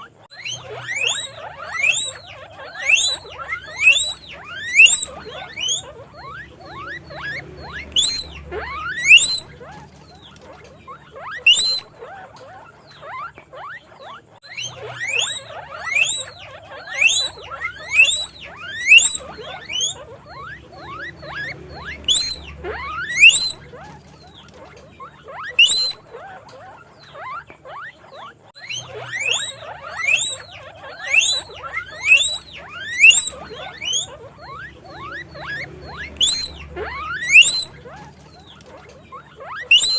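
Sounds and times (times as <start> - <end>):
guinea pig squeaking: 0.0 - 39.9.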